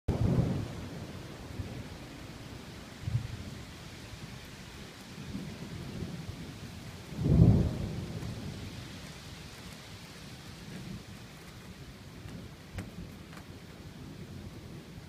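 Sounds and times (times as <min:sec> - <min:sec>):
rain hiss: 0:00.1 - 0:15.0
thunder rumbling: 0:00.1 - 0:15.0.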